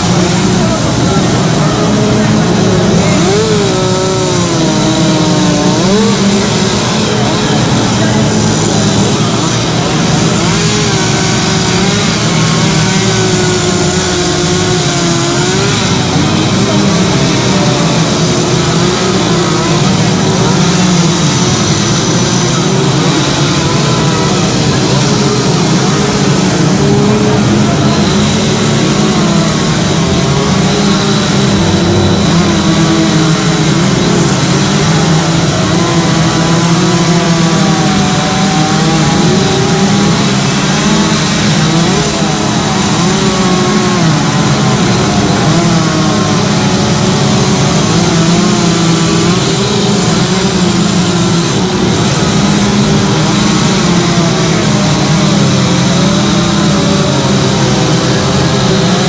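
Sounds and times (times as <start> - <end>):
chainsaws cutting wood: 0.0 - 59.0.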